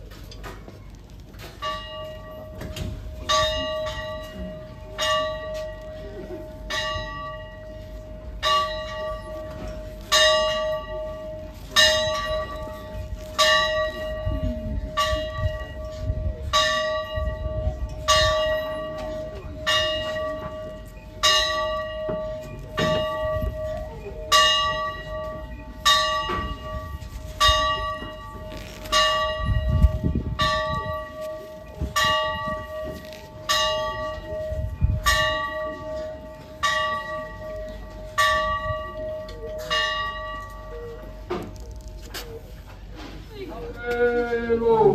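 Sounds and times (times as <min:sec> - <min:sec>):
church bell tolling: 0:01.4 - 0:44.9.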